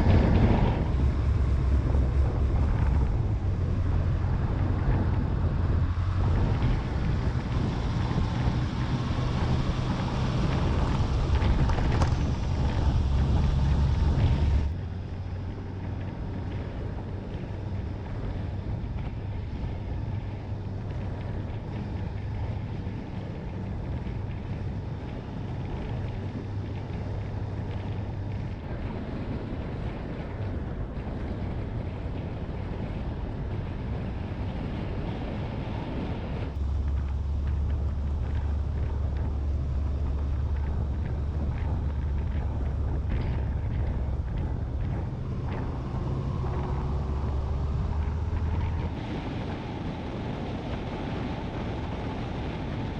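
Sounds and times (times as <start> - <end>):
motorcycle engine running: 0.0 - 34.6, 36.5 - 52.9
wind on microphone: 0.0 - 52.9.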